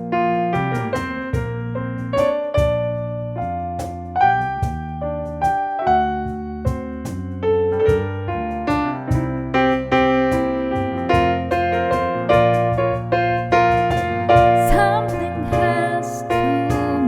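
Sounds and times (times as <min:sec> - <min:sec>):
bass line: 0:00.0 - 0:17.0
electric piano jazz ballad: 0:00.0 - 0:17.0
light drums: 0:00.6 - 0:05.8, 0:06.7 - 0:17.0.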